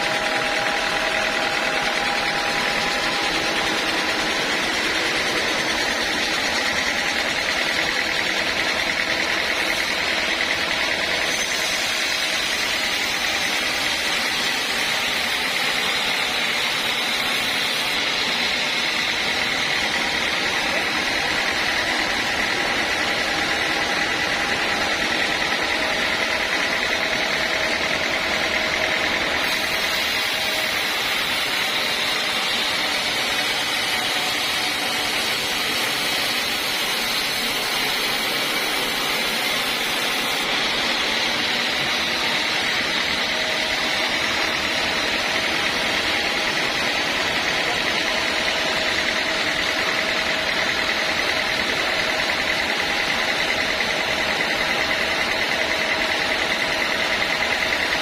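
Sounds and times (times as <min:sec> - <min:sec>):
band saw running with high whine: 0:00.0 - 0:58.0.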